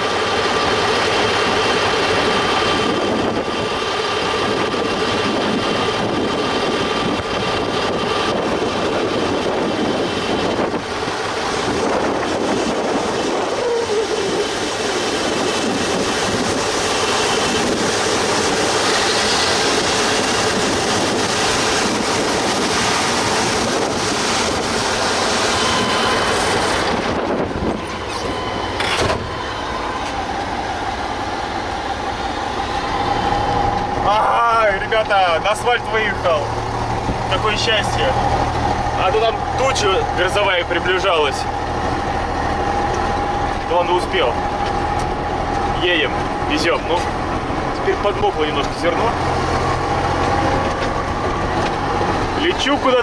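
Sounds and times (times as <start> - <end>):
dump truck engine running: 0.0 - 53.0.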